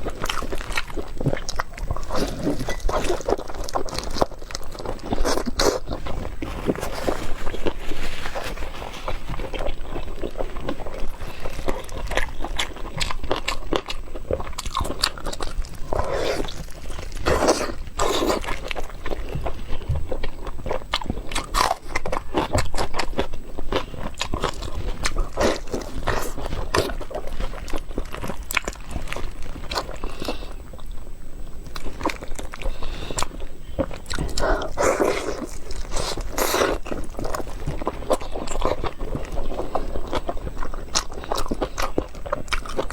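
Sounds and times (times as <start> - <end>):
person chewing and crunching: 0.0 - 42.9.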